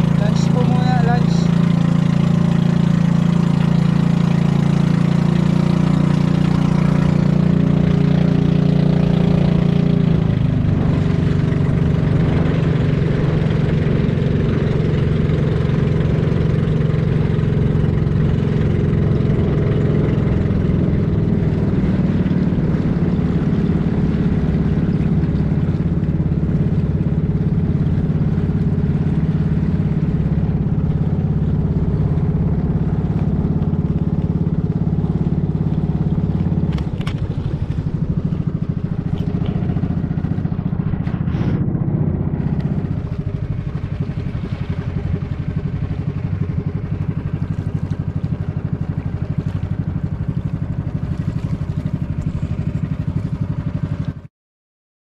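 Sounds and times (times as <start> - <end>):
boat engine droning: 0.0 - 54.3.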